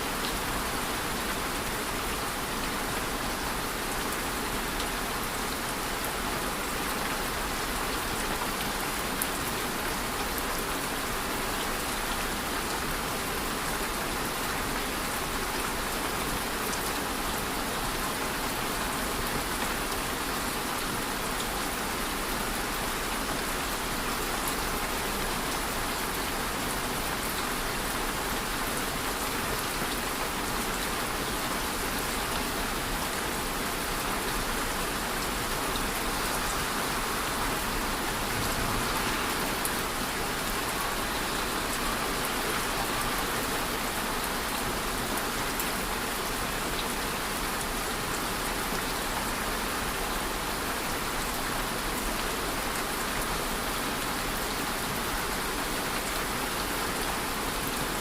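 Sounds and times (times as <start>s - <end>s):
rain pattering: 0.1s - 58.0s.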